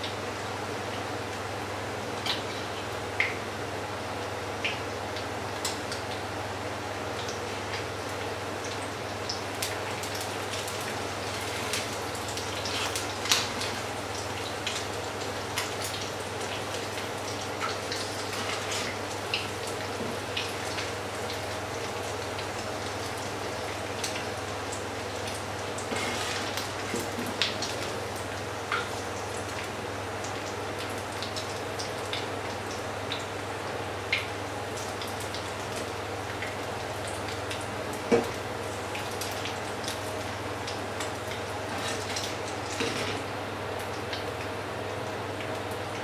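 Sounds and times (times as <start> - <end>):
food sizzling in oil: 7.0 - 44.3.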